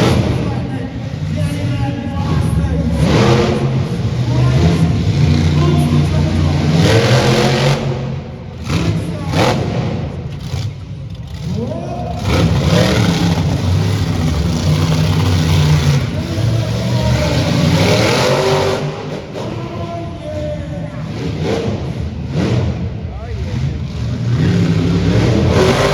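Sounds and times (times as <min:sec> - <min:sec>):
monster truck engine revving: 0:00.0 - 0:25.9.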